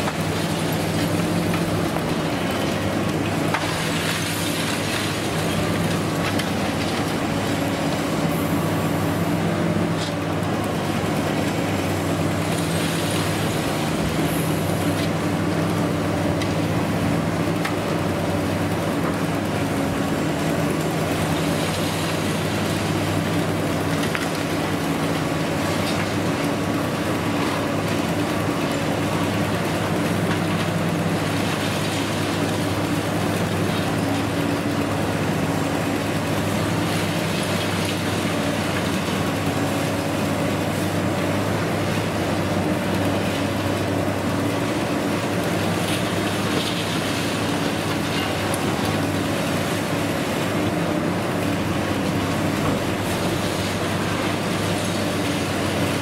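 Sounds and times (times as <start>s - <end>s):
concrete debris crackling: 0.0s - 56.0s
excavator engine drone: 0.0s - 56.0s.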